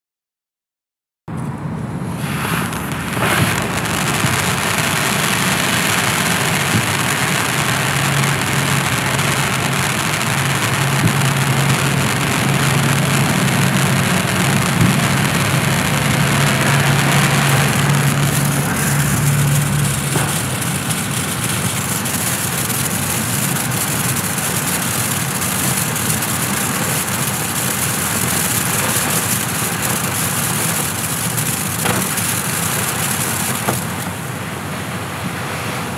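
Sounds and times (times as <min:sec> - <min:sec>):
firework fountain hissing: 0:02.0 - 0:35.9.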